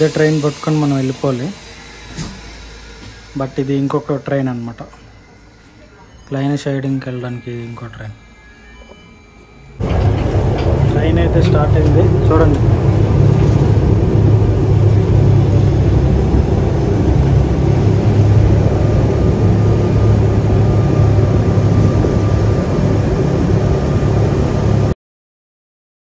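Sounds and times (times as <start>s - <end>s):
train running rumble: 0.0s - 7.2s, 9.6s - 24.9s.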